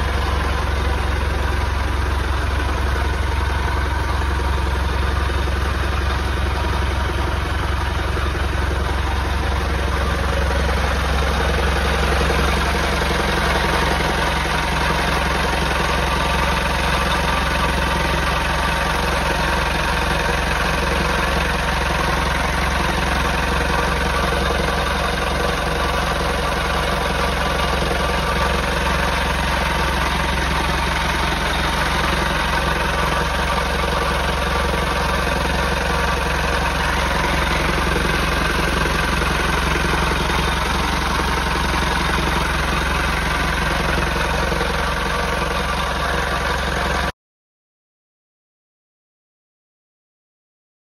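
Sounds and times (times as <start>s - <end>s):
boat engine idling: 0.0s - 47.1s.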